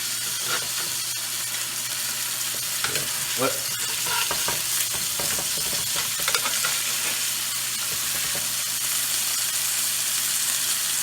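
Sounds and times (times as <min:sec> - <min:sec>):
steaks sizzling in oil: 0:00.0 - 0:11.0.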